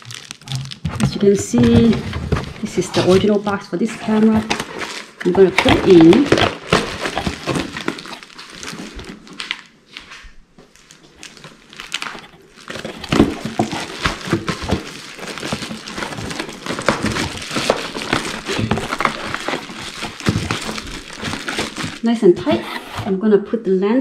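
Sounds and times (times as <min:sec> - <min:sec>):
cardboard rustling and knocking: 0:00.0 - 0:09.6, 0:11.0 - 0:23.2
bubble wrap crinkling: 0:00.0 - 0:23.1.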